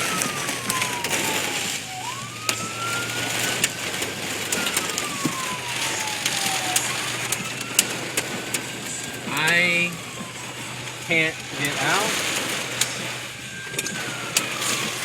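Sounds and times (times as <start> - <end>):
wailing siren: 0.0 - 15.0.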